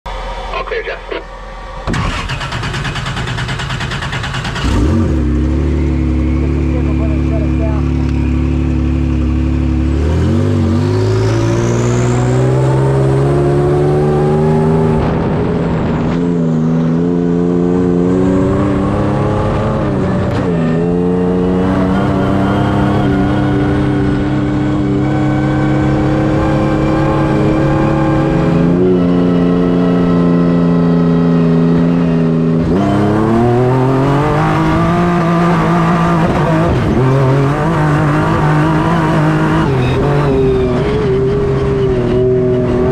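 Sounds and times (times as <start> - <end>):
truck engine revving: 0.1 - 42.9.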